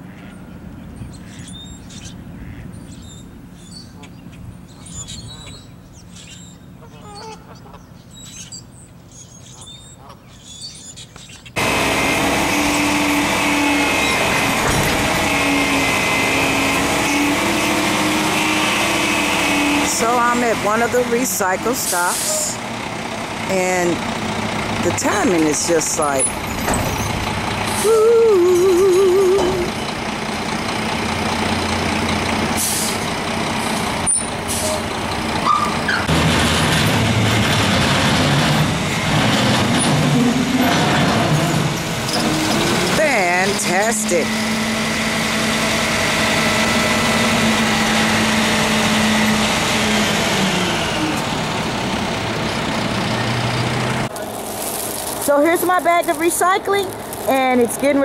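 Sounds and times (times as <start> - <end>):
truck engine and hydraulic hoist: 11.2 - 58.0.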